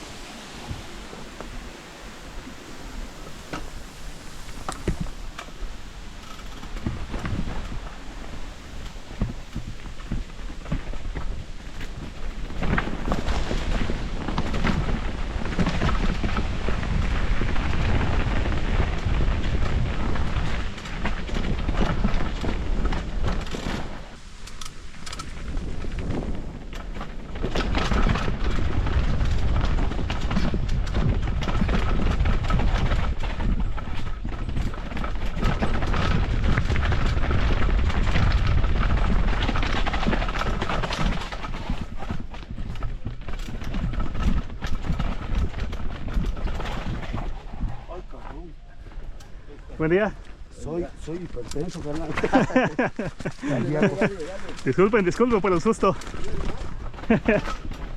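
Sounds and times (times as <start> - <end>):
wind rumble on microphone: 0.0 - 57.9.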